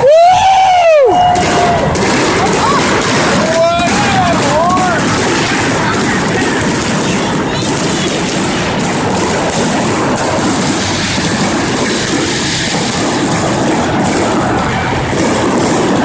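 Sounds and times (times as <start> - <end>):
fireworks crackling and booming: 0.0 - 16.0.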